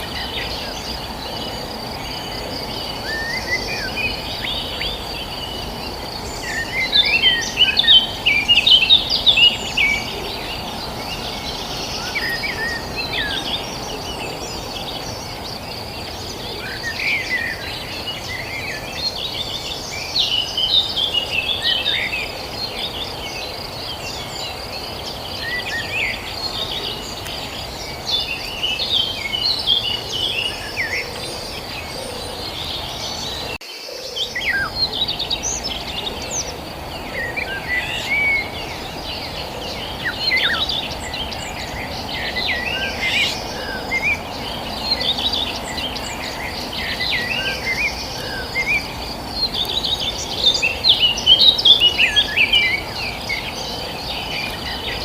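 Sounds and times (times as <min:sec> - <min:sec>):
background hiss: 0:00.0 - 0:55.0
small birds chirping: 0:00.0 - 0:55.0.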